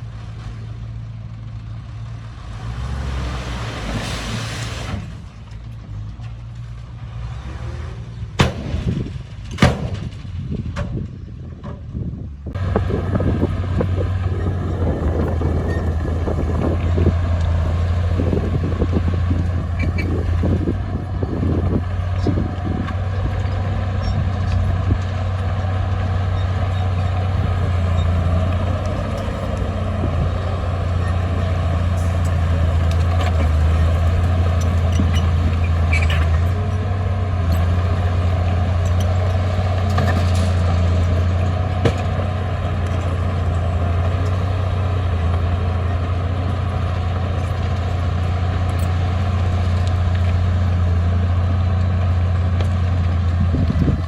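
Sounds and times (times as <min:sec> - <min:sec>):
heavy diesel engine running: 0:08.1 - 0:54.0.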